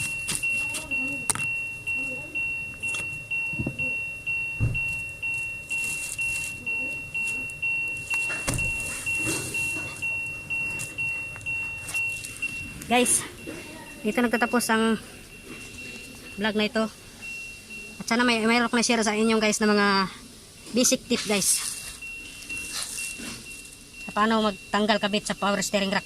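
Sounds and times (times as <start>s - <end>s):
electronic warning chime beeping: 0.0s - 26.0s.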